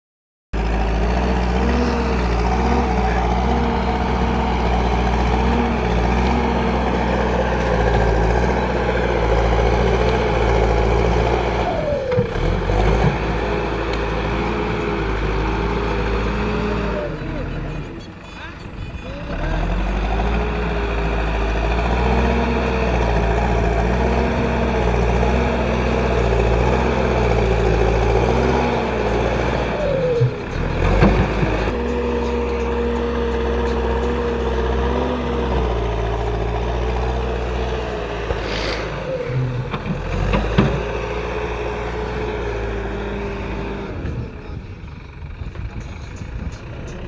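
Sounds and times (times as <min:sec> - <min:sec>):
backhoe diesel engine under load: 0:00.6 - 0:47.0.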